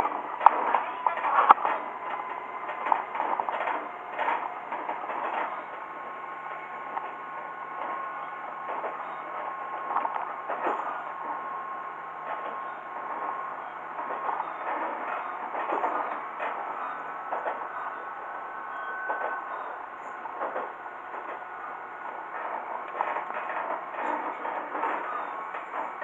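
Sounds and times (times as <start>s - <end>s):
diesel railcar humming: 0.0s - 26.0s
wheels clicking over rail joints: 0.0s - 26.0s.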